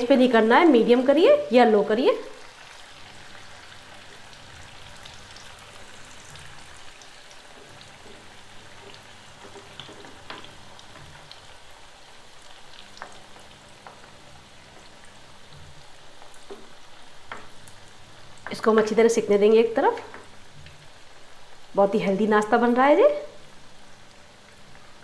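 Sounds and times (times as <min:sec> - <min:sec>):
patties sizzling in hot oil: 0:00.0 - 0:25.0.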